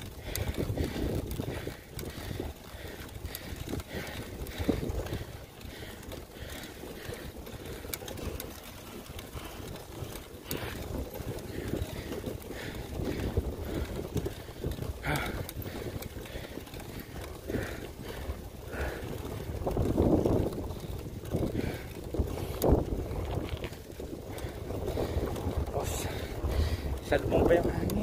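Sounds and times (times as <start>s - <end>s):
faint clicks: 0.0s - 25.1s
wind buffeting microphone: 0.0s - 28.0s.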